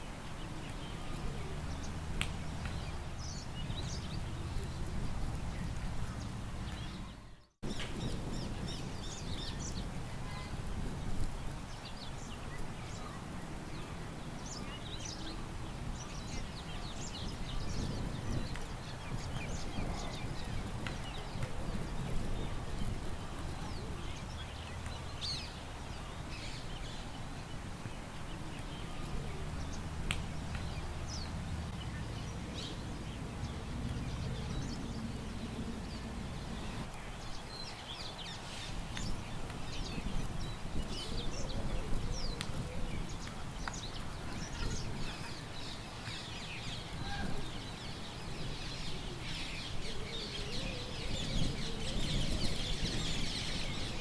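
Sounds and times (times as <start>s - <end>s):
birds chirping: 0.0s - 10.6s, 11.7s - 54.0s
low wind rumble: 0.0s - 54.0s.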